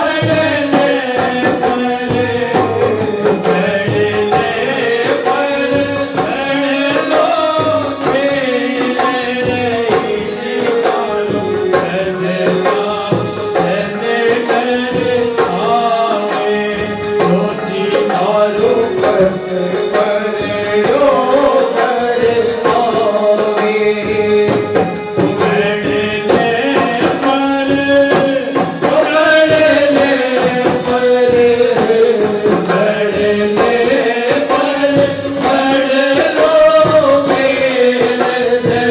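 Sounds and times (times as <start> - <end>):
chant-like folk singing: 0.0 - 38.9
steady percussion: 0.0 - 38.9.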